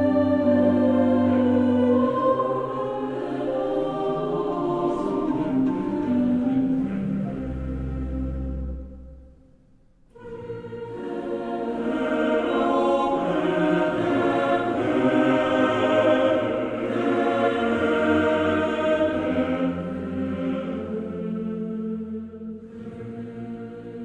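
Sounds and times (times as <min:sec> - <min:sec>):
choir holding long chords: 0:00.0 - 0:09.4, 0:10.1 - 0:24.0.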